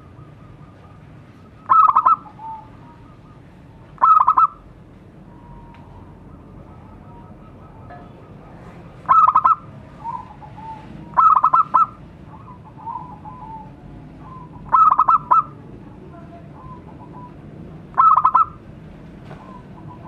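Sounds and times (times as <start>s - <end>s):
dove cooing: 0.0s - 15.6s, 16.4s - 18.6s.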